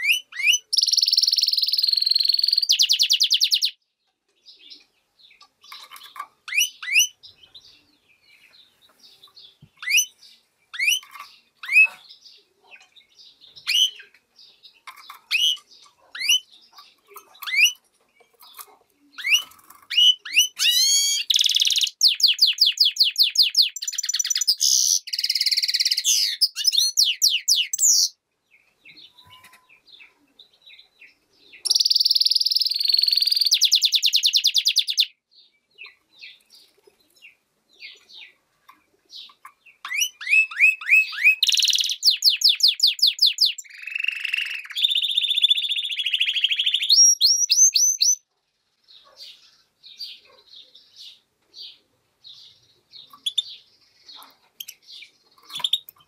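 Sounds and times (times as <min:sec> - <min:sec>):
bird singing trills: 0:00.0 - 0:48.2, 0:48.9 - 0:56.0.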